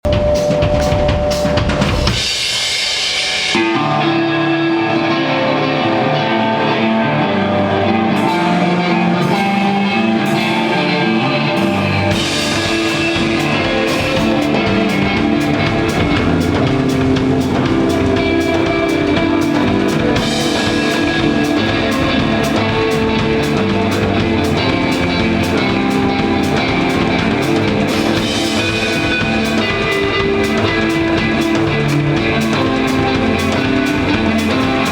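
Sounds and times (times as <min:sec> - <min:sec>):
rock band playing live: 0:00.0 - 0:34.9.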